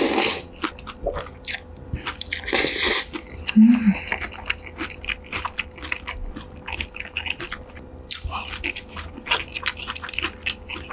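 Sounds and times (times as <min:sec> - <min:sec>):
person chewing crunchy food: 0:00.0 - 0:10.9.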